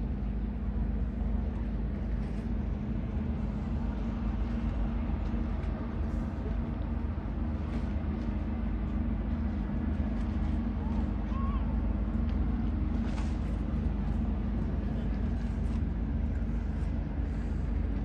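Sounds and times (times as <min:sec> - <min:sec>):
distant traffic rumble: 0:00.0 - 0:18.0
steady low hum: 0:00.0 - 0:18.0.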